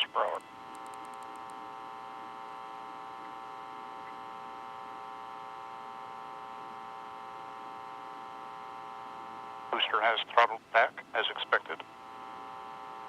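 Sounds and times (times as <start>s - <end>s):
steady electronic hum: 0.0s - 13.0s.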